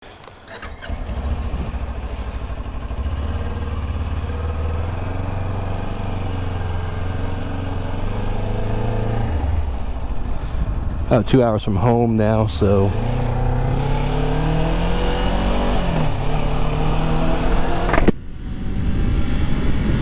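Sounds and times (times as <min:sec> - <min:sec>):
motorcycle engine running: 0:00.5 - 0:20.0.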